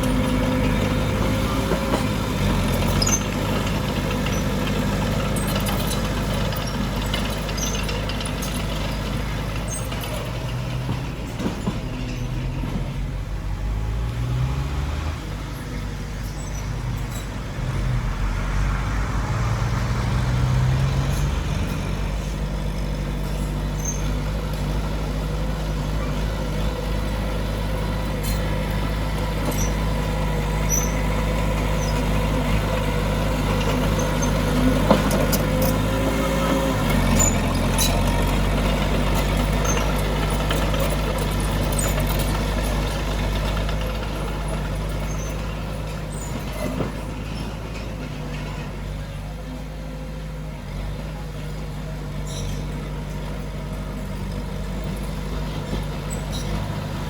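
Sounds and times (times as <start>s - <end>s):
heavy diesel engines working: 0.0s - 57.0s.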